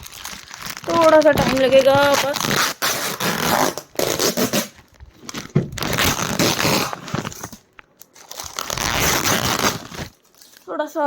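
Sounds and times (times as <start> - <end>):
packaging being torn open: 0.0 - 10.7.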